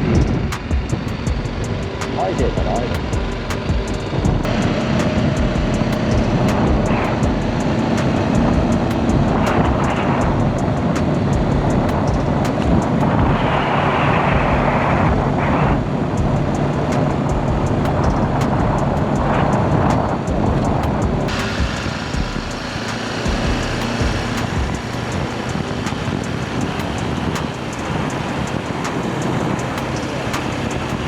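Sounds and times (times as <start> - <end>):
motorcycle engine running: 0.0 - 13.7, 14.3 - 31.0
wind and road noise: 0.0 - 31.0.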